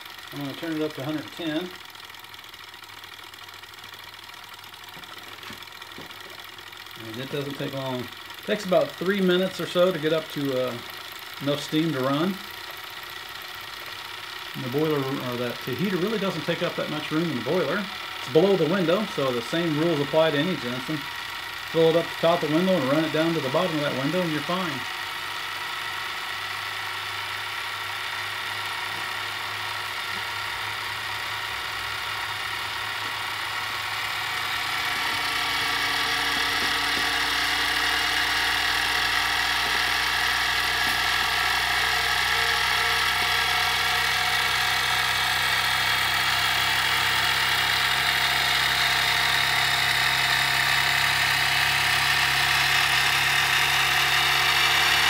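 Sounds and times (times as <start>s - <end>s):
toy steam engine running: 0.0s - 55.0s.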